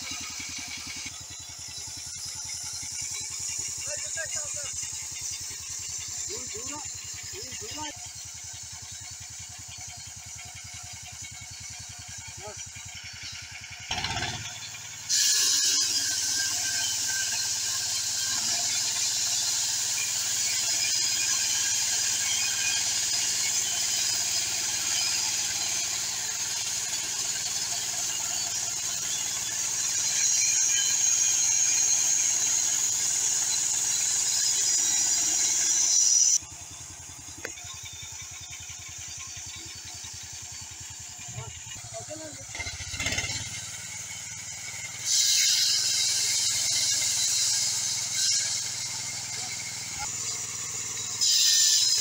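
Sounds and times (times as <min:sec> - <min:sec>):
band saw cutting log: 0:00.0 - 0:52.0
engine idling: 0:00.0 - 0:52.0.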